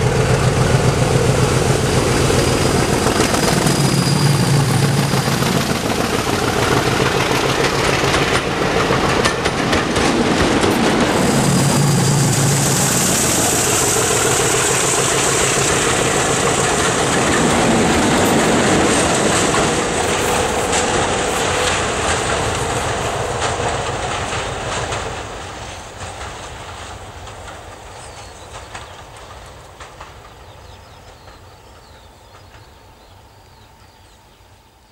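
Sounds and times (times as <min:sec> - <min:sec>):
wheels clicking over rail joints: 0:00.0 - 0:34.2
train coaches clattering past: 0:00.0 - 0:34.9.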